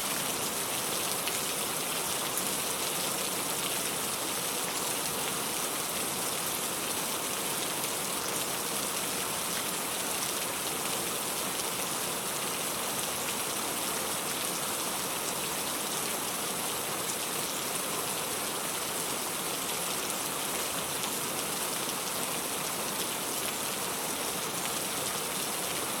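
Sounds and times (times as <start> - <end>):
rain hissing on a surface: 0.0 - 26.0.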